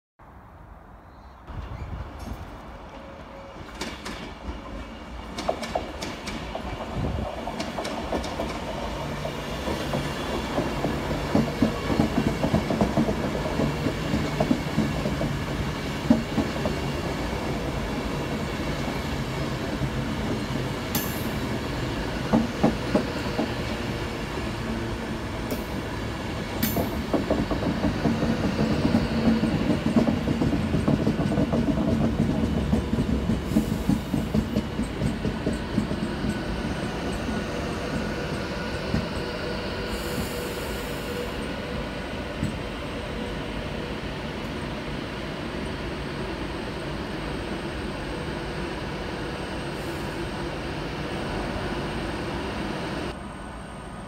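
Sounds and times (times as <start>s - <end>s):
train wheels on rails: 1.5s - 54.0s.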